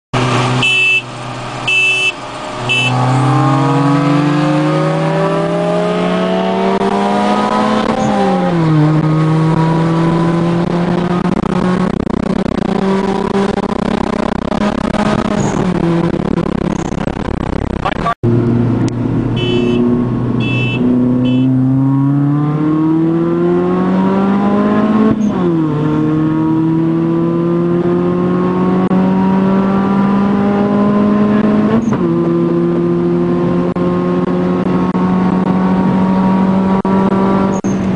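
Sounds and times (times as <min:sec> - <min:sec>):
car engine accelerating: 0:00.1 - 0:37.9.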